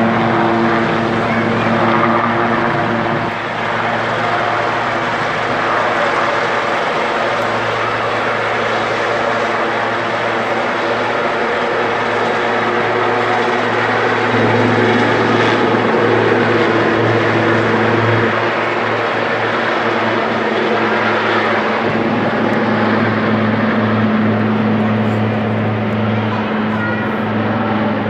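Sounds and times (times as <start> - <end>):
helicopter rotor and turbine noise: 0.0 - 28.0
low hum: 0.0 - 28.0.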